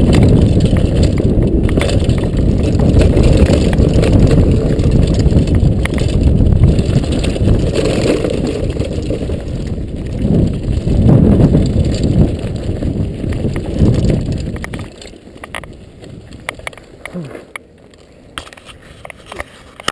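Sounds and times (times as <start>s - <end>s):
wind buffeting microphone: 0.0s - 17.0s
bike tyres on dirt: 0.0s - 19.9s.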